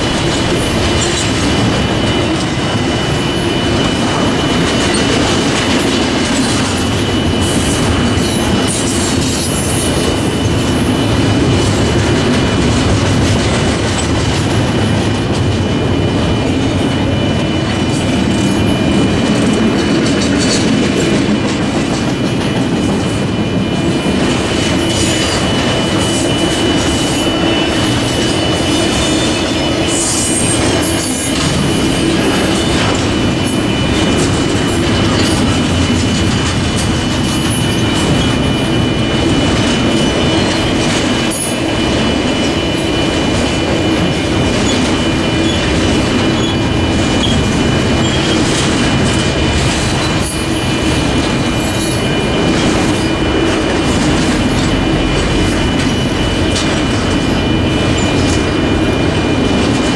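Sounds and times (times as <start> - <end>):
high-pitched whine: 0.0 - 59.9
wheels rumbling on rail: 0.0 - 59.9.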